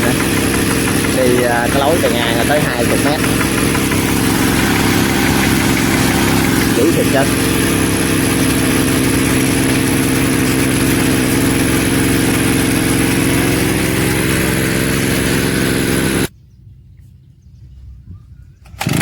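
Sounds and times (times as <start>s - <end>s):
small engine driving water pump: 0.0s - 16.3s, 18.7s - 19.0s.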